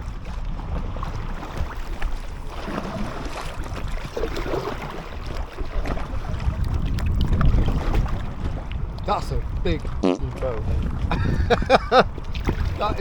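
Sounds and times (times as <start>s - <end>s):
water splashing against kayak: 0.0s - 13.0s
wind buffeting microphone: 0.0s - 13.0s.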